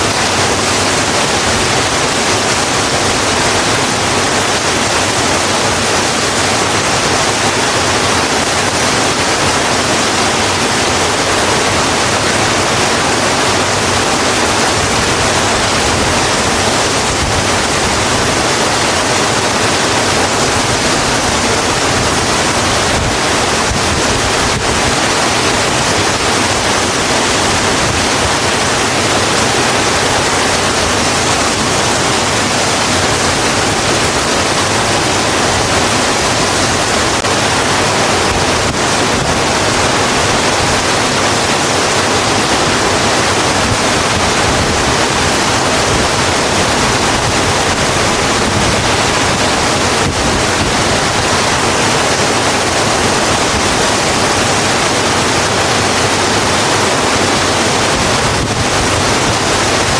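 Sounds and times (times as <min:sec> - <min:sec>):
heavy rain on road: 0:00.0 - 0:59.9.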